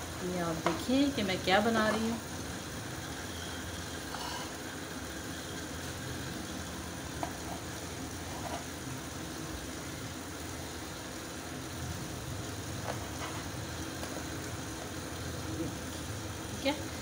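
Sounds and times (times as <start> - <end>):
low mechanical hum with hiss: 0.0 - 17.0.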